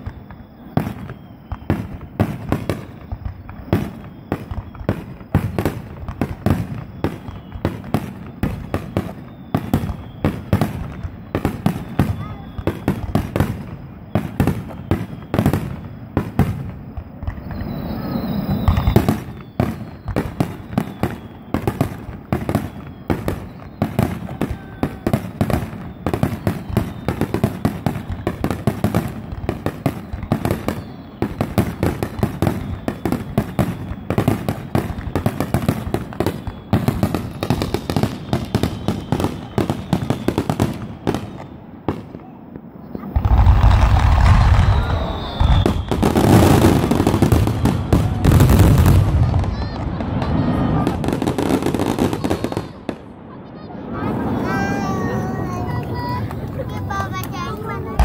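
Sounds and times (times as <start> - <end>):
fireworks bursting with crackling: 0.0 - 58.0.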